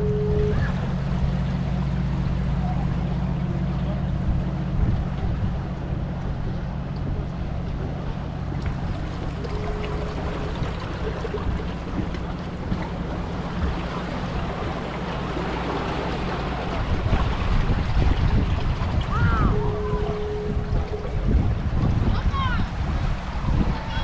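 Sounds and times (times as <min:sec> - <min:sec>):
boat engine drone: 0:00.0 - 0:24.0
wind buffeting microphone: 0:00.0 - 0:24.0.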